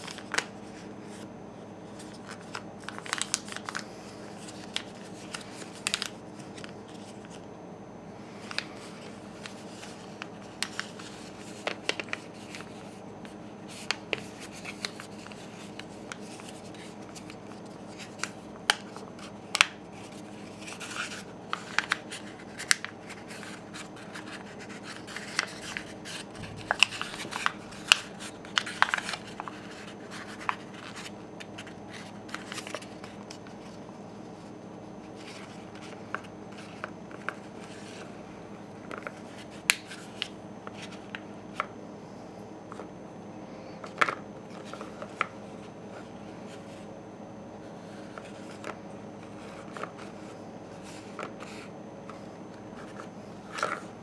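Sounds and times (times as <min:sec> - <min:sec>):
paper crinkling and crackling: 0:00.0 - 0:01.3, 0:01.9 - 0:07.5, 0:08.3 - 0:41.7, 0:43.6 - 0:47.0, 0:47.6 - 0:54.0
steady low hum: 0:00.0 - 0:54.0.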